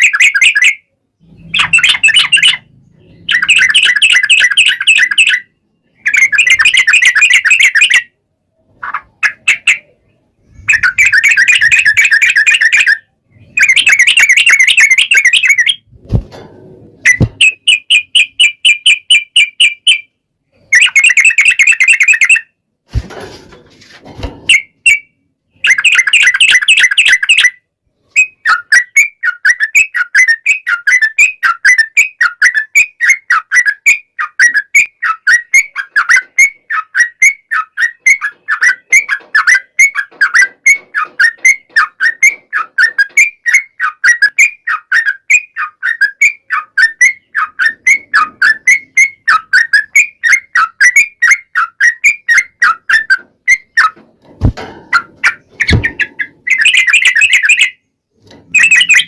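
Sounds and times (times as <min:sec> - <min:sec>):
bird singing whistled notes: 0:00.0 - 0:08.1, 0:09.3 - 0:15.9, 0:17.0 - 0:22.5, 0:24.5 - 0:54.0, 0:55.2 - 0:57.9, 0:58.5 - 0:59.0.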